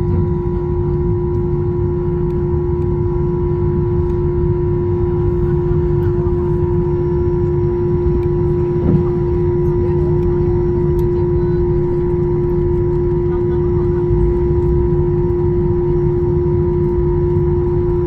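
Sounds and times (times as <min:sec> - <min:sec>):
aircraft engine rumble: 0:00.0 - 0:18.0
constant droning hum: 0:00.0 - 0:18.0.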